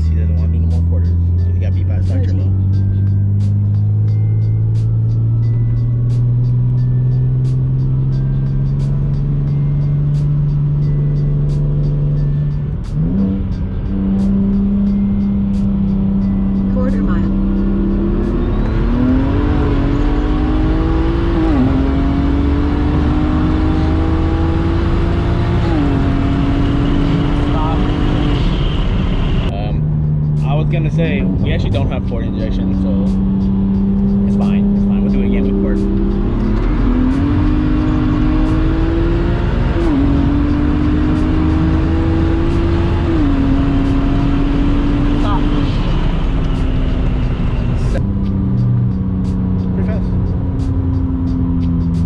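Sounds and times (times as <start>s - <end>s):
car engine at full throttle: 0.0s - 52.0s.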